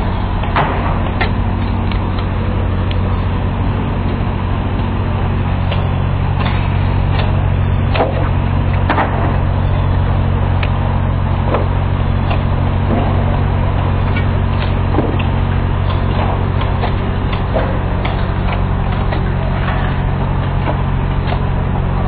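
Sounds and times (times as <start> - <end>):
construction machinery engine drone: 0.0 - 22.0.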